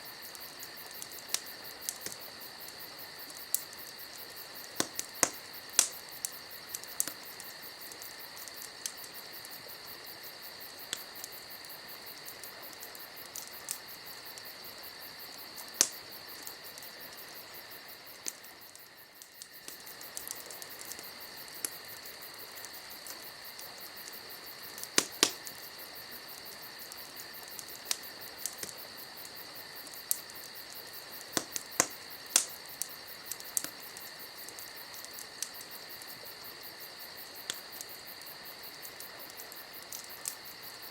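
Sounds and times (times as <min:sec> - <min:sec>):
campfire crackling and popping: 0:00.0 - 0:40.9
crickets chirping: 0:00.0 - 0:40.9.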